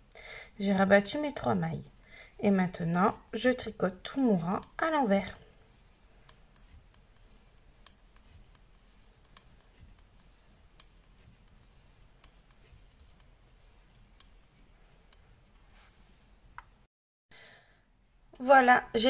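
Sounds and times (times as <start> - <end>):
knitting needles clicking: 1.0 - 16.8.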